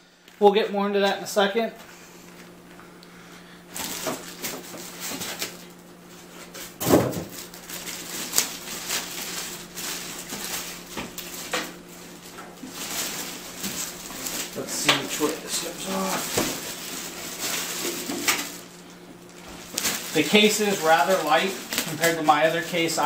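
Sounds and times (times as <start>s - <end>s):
faint steady hum: 0.0s - 23.0s
packaging rustling: 3.7s - 23.0s.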